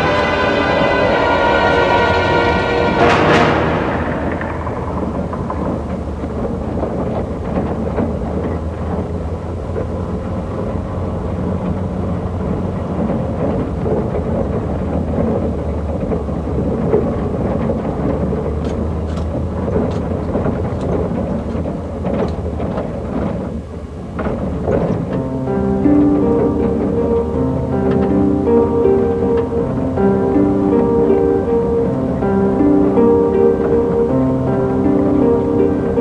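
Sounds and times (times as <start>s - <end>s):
low rumble with hiss: 0.0s - 36.0s.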